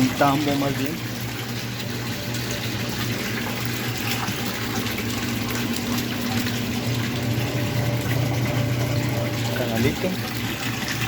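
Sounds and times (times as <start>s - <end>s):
drain pump humming: 0.0s - 11.0s
waste water gushing into drum: 0.0s - 11.0s.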